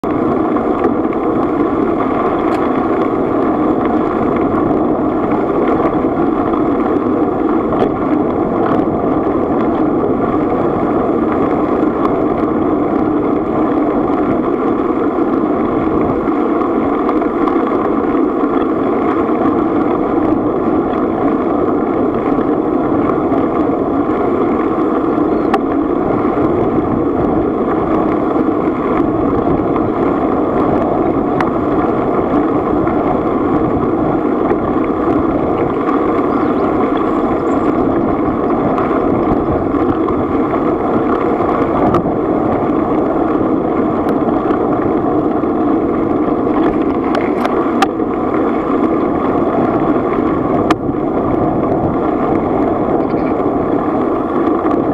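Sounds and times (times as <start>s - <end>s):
bicycle tyres rumbling on gravel: 0.0s - 54.9s
wind on microphone: 0.0s - 54.9s.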